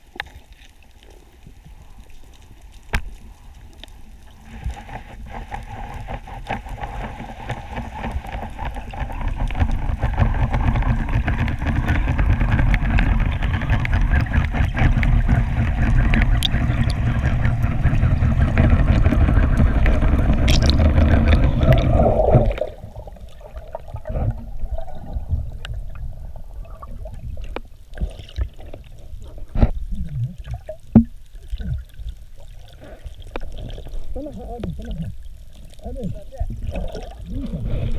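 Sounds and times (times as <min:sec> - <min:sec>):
underwater rushing water: 0:00.0 - 0:37.9.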